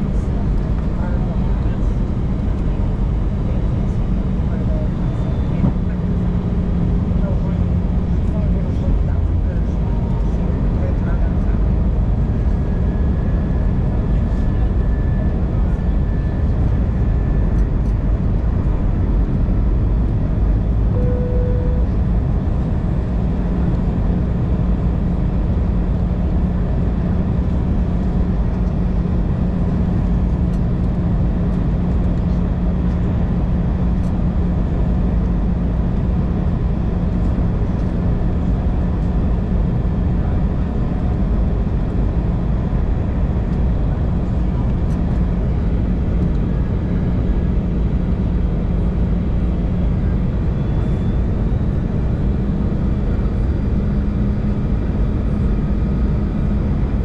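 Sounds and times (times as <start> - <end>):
airliner cabin rumble: 0.0 - 57.0
steady low hum: 0.0 - 57.0.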